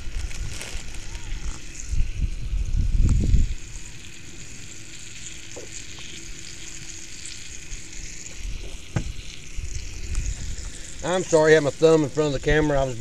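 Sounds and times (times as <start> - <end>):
chicken frying in a skillet: 0.0 - 13.0.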